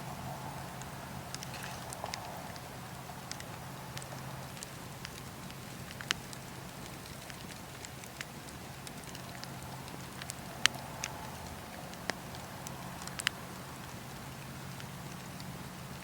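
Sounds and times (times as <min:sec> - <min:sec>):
campfire burning: 0:00.1 - 0:16.0.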